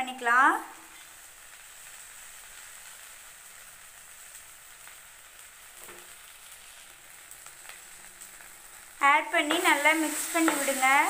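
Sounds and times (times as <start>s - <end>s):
rice sizzling in ghee: 0.0s - 11.0s.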